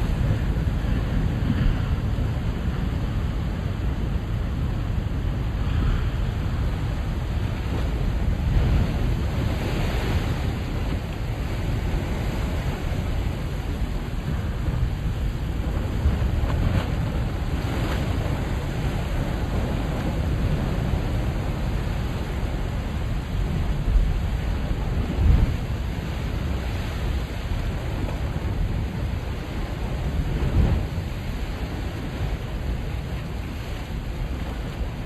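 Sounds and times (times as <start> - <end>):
ocean surf on rocky shore: 0.0 - 35.0
wind rumble on microphone: 0.0 - 35.0.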